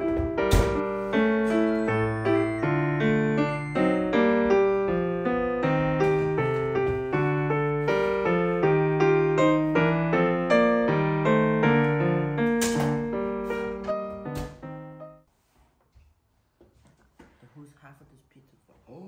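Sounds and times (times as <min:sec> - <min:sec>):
gentle piano melody: 0:00.0 - 0:15.3.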